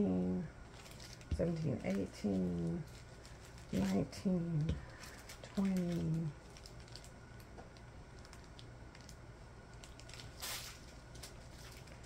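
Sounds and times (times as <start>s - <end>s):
plastic bag crinkle: 0.6s - 12.0s
plastic bags rustling: 0.6s - 12.0s.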